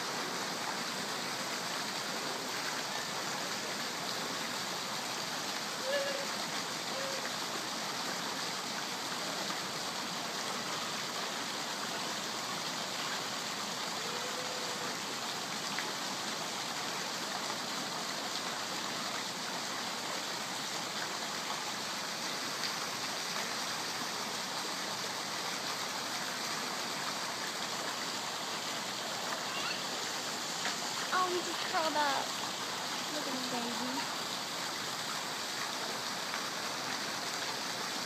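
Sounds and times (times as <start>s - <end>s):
waterfall splashing into pool: 0.0s - 38.0s.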